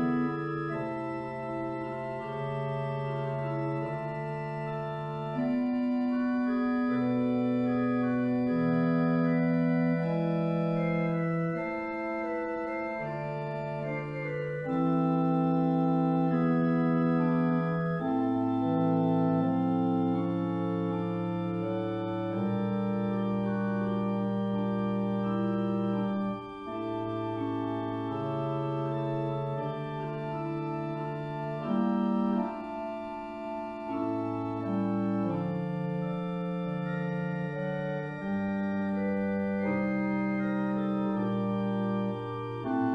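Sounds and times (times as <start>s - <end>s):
organ playing sustained chords: 0.0s - 42.9s.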